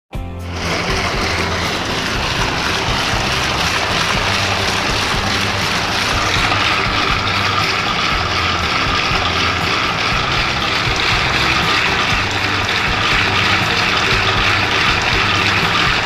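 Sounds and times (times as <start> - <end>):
ice cream machine churning: 0.4 - 16.0.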